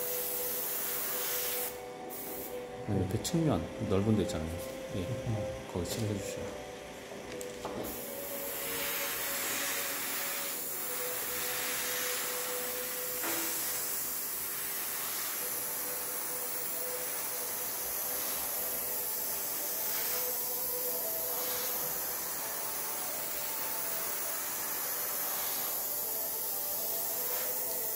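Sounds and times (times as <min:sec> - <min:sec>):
airbrush hissing: 0:00.0 - 0:02.7, 0:07.8 - 0:27.9.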